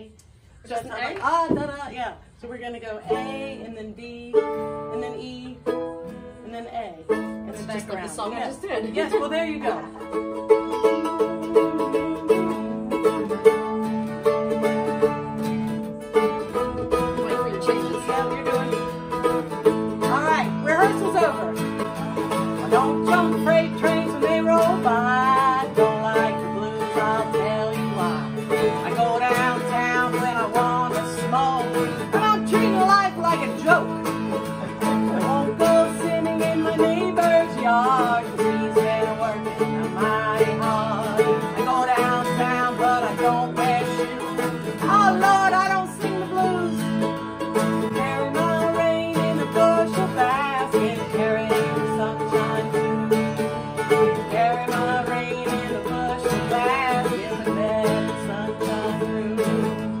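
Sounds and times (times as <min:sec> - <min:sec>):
woman singing blues: 0:00.0 - 1:00.0
acoustic guitar strummed: 0:00.7 - 1:00.0
mandolin strummed: 0:00.7 - 1:00.0.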